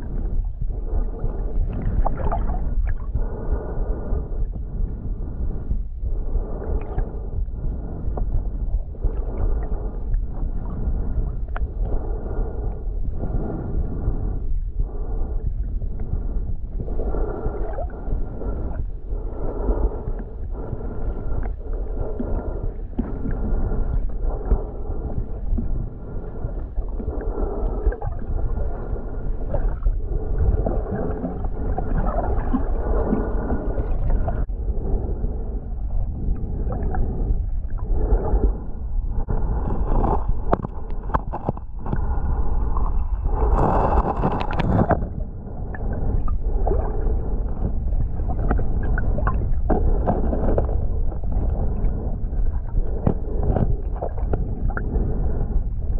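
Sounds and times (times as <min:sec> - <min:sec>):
underwater rumble and sloshing: 0:00.0 - 0:55.9.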